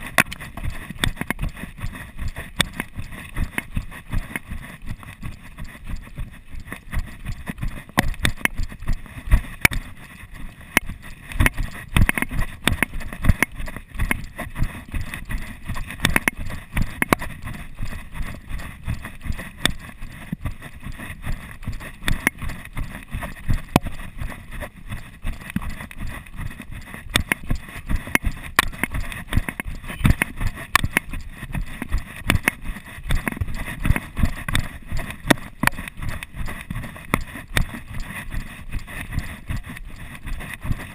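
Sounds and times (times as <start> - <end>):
footsteps running on dirt trail: 0.0 - 40.9.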